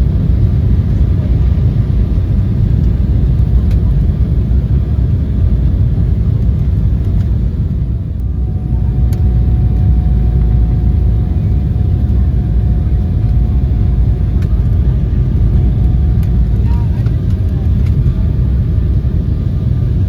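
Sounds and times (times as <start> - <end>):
jet airliner cabin rumble: 0.0 - 20.0.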